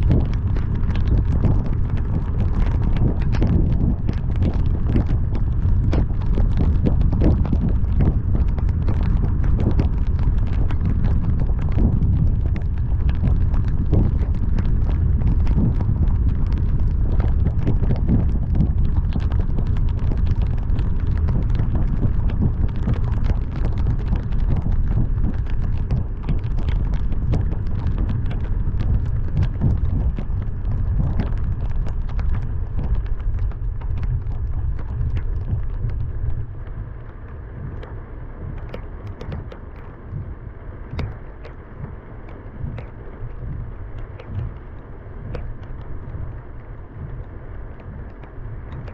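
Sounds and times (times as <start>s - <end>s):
heavy rain patter: 0.0s - 48.9s
wind and road noise rumble: 0.0s - 48.9s.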